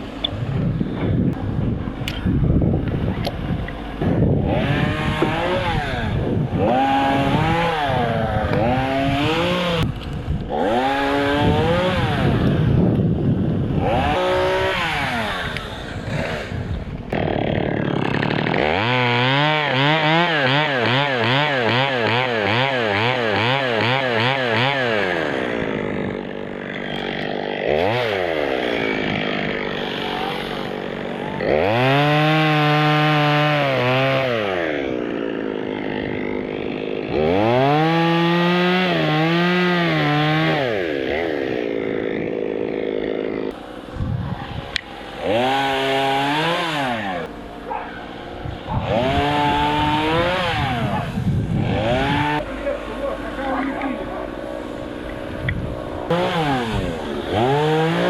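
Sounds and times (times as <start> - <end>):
chainsaw revving and cutting wood: 0.0 - 2.1, 2.8 - 58.0.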